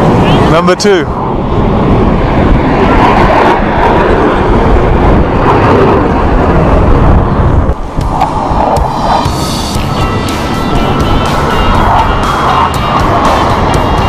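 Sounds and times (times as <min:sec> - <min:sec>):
jet roaring past: 0:00.0 - 0:14.0.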